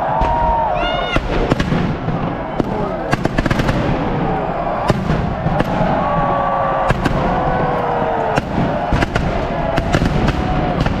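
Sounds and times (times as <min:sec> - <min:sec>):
firecrackers banging: 0:00.0 - 0:11.0
whistling fireworks: 0:00.0 - 0:11.0.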